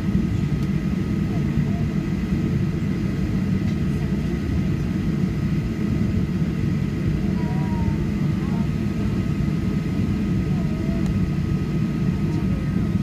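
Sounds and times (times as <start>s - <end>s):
aircraft cabin rumble: 0.0s - 13.0s
faint constant engine whines: 0.0s - 13.0s.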